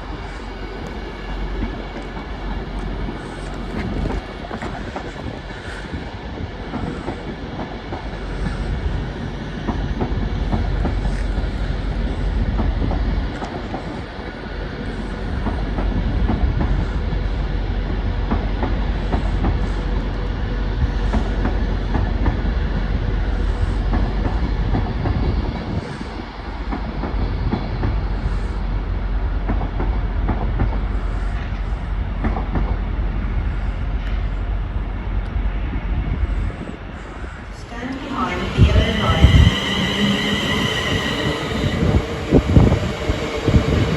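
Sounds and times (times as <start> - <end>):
train rumbling: 0.0 - 43.9.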